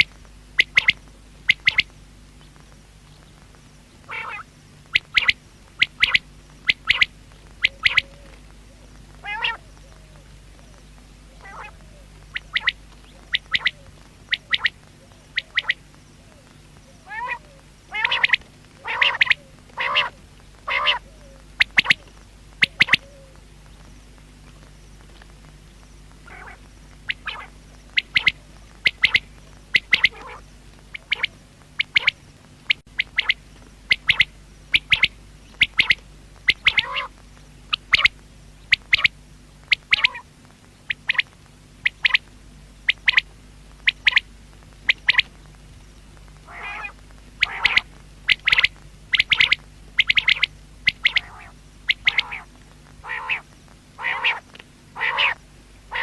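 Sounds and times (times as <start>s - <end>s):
quail calling: 0.0s - 1.9s, 4.0s - 23.4s, 26.2s - 40.3s, 40.9s - 45.4s, 46.4s - 56.0s.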